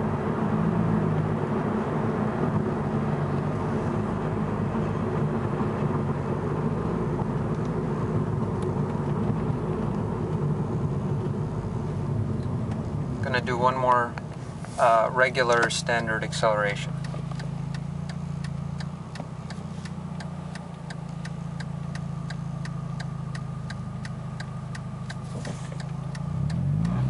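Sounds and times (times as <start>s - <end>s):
car engine humming: 0.0s - 27.0s
road noise: 0.0s - 27.0s.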